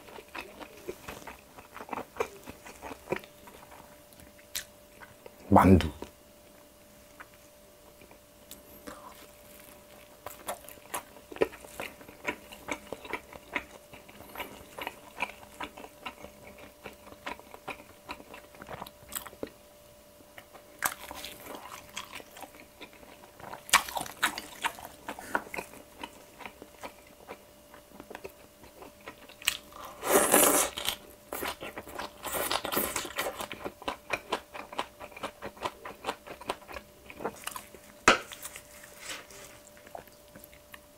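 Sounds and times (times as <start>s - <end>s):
chewing dumpling: 0.0s - 5.4s, 7.1s - 19.6s, 20.3s - 40.9s.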